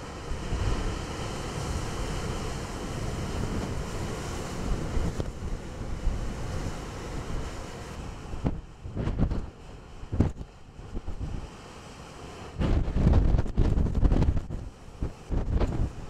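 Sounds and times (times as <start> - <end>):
gusting wind on microphone: 0.0 - 16.0
storm waves breaking on cliff: 0.0 - 16.0.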